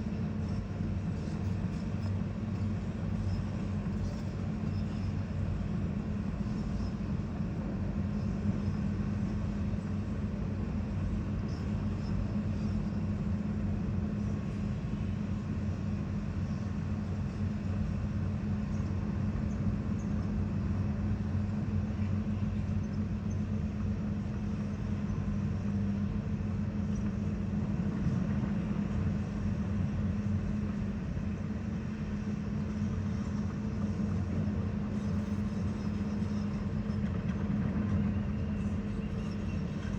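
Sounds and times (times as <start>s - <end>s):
construction machinery engine humming: 0.0s - 39.9s.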